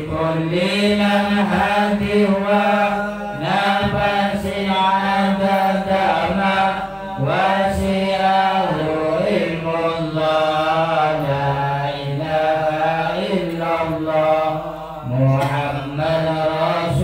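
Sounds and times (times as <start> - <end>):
men chanting through a microphone: 0.0 - 17.0.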